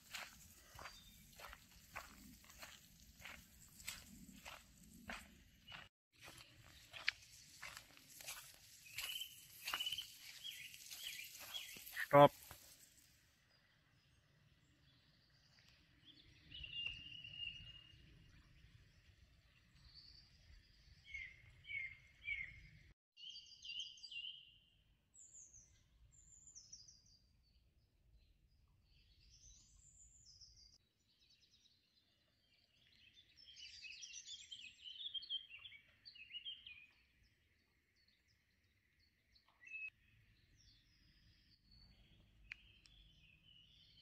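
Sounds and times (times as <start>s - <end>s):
songbirds chirping and singing: 0.1s - 12.3s, 13.6s - 27.2s, 28.8s - 44.0s.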